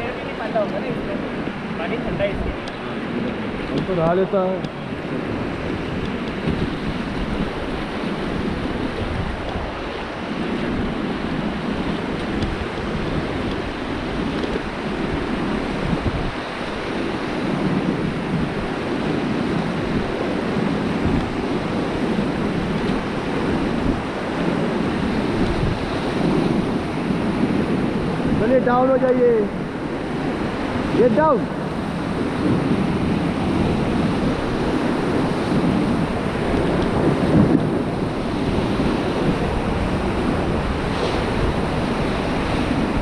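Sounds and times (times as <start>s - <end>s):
river water rushing: 0.0s - 43.0s
wind noise on microphone: 0.0s - 43.0s.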